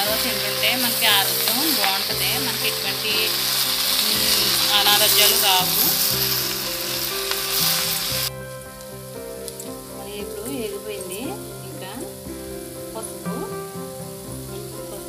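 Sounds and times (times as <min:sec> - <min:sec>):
oil sizzling in a pan: 0:00.0 - 0:15.0.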